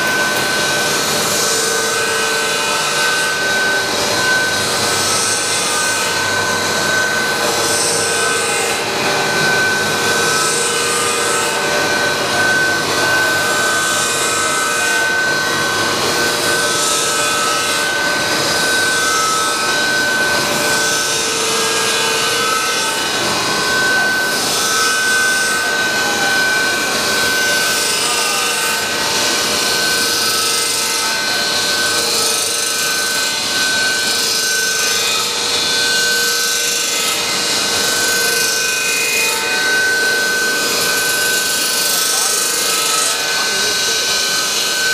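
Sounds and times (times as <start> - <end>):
high-pitched machine whine: 0.0 - 44.9
machinery noise: 0.0 - 44.9.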